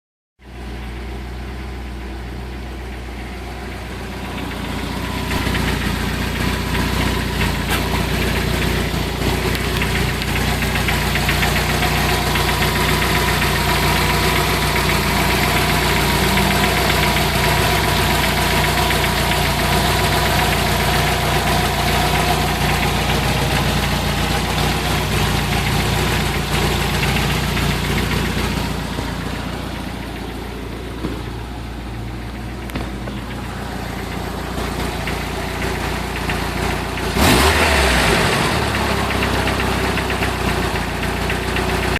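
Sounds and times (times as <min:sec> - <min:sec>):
car engine knocking and rattling: 0:00.4 - 0:41.9.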